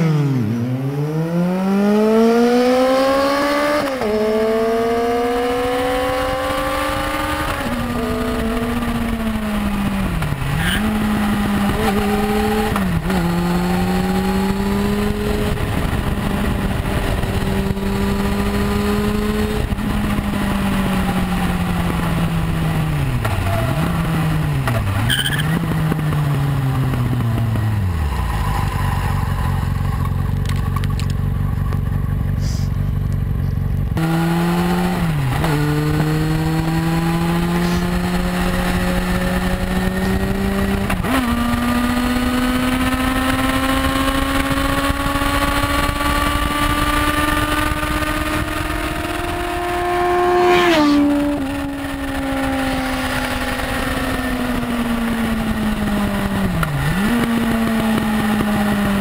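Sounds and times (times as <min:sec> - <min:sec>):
motorcycle accelerating: 0:00.0 - 0:59.0.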